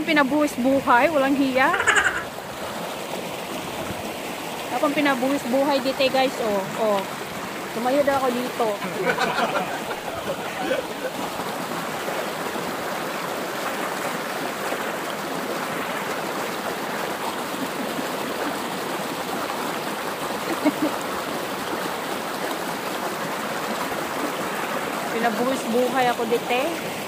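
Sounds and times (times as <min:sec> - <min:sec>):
creek running over rocks: 0:00.0 - 0:27.0.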